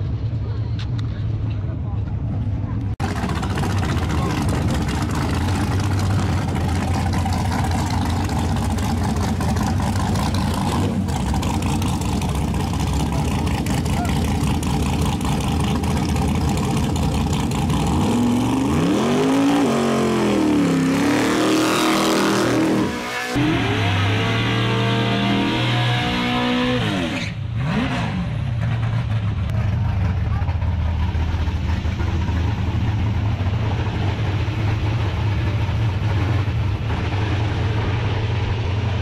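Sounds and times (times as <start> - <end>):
drag car engine idling and revving: 0.0 - 39.0.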